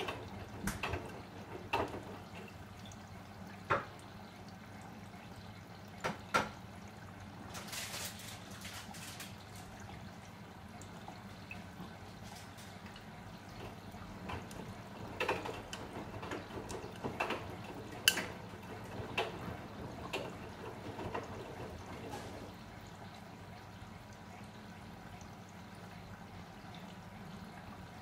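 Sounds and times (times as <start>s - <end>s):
low steady hum: 0.0s - 28.0s
water splashing in washing machine drum: 0.0s - 28.0s.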